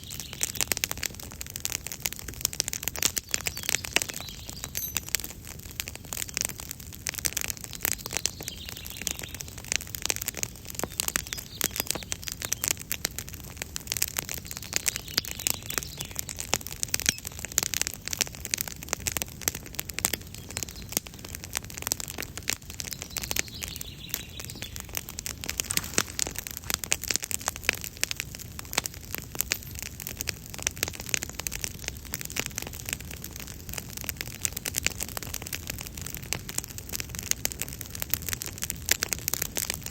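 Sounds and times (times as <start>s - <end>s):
wood campfire crackling: 0.0s - 39.9s.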